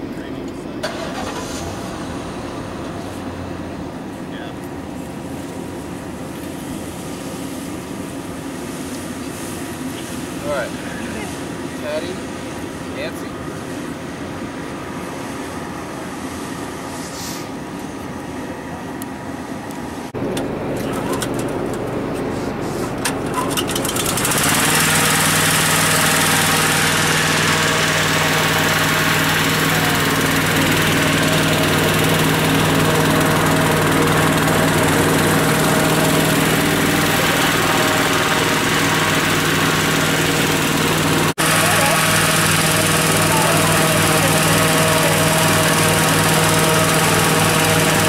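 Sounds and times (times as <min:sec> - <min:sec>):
engine-driven fan droning: 0:00.0 - 0:48.0.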